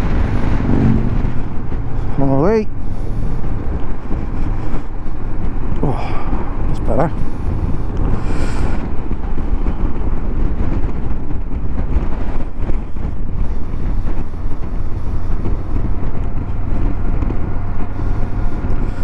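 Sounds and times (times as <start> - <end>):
motorcycle engine at road speed: 0.0 - 19.0
wind rushing over microphone: 0.0 - 19.0.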